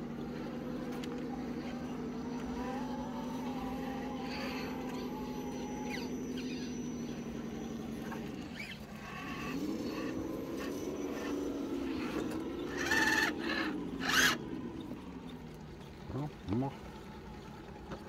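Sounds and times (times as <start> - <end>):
electric motor and gearbox whining: 0.0 - 18.0.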